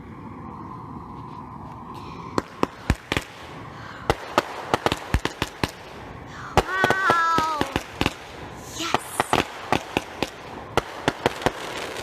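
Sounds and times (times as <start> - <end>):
fireworks hissing: 0.5 - 12.0
fireworks bangs: 1.3 - 12.0.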